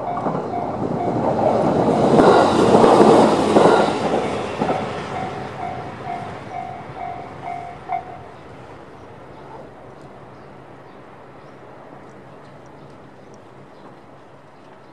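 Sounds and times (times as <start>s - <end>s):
passing train rumble: 0.0s - 14.9s.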